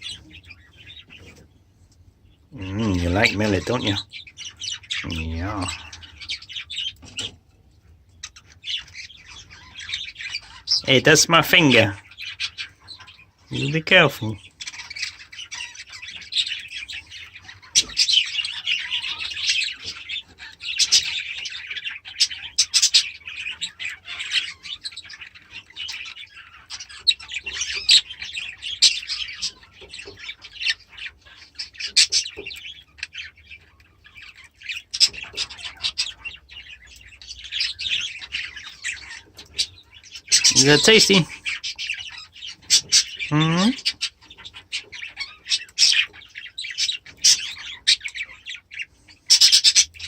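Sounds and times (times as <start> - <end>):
pet bird chirping: 0.0 - 50.0.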